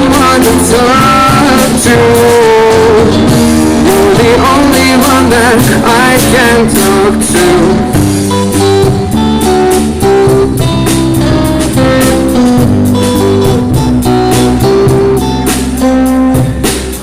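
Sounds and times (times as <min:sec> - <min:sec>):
bass: 0:00.0 - 0:17.0
drum hits: 0:00.0 - 0:17.0
electric guitar held notes: 0:00.0 - 0:17.0.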